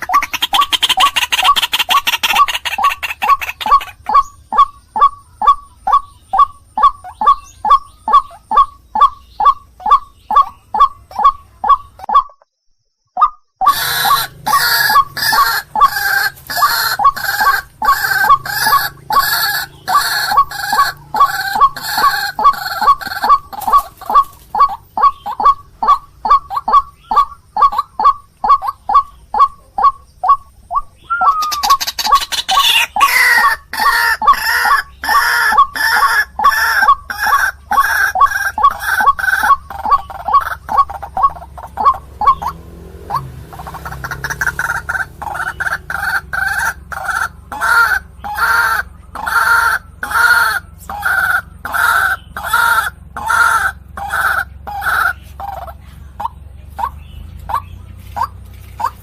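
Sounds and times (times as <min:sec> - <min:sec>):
waterhen croaking calls: 0:00.0 - 0:12.5, 0:13.2 - 0:59.0.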